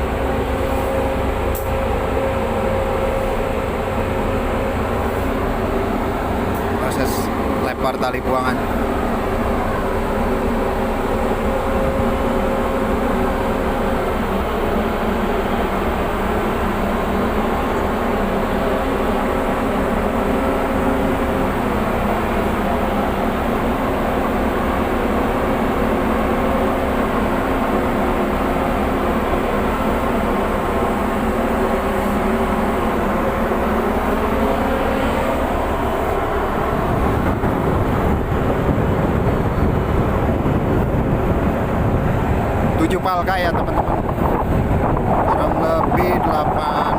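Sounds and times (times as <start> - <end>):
boat diesel engine droning: 0.0 - 46.9.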